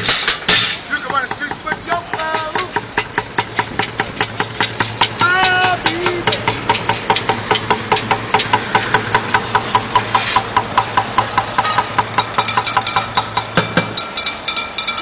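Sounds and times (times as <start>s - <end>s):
rapid mechanical clicking: 0.0s - 15.0s
steady engine hum: 0.0s - 15.0s.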